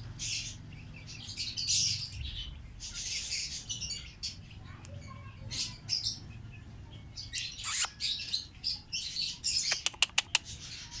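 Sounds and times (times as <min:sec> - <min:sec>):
lovebirds chirping: 0:00.1 - 0:11.0.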